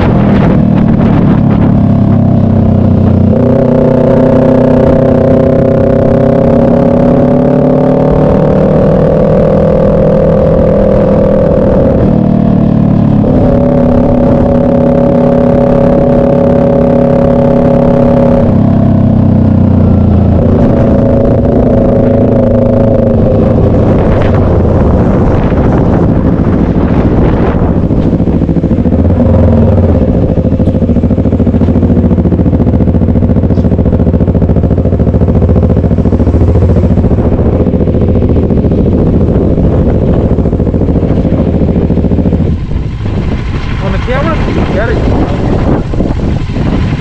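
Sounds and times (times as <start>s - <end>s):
motorcycle engine: 0.0s - 47.0s
wind buffeting microphone: 0.0s - 47.0s.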